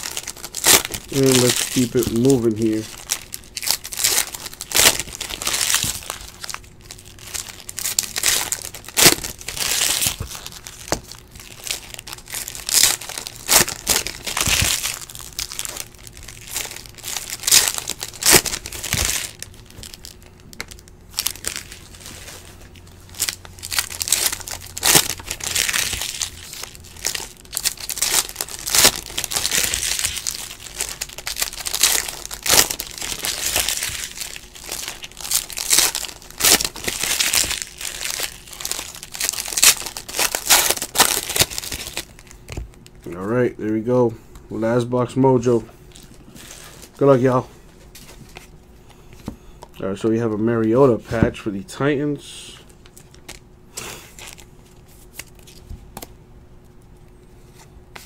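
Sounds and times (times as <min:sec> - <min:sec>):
foil wrappers crinkling and tearing: 0:00.0 - 0:43.9, 0:44.9 - 0:49.3, 0:52.6 - 0:56.1.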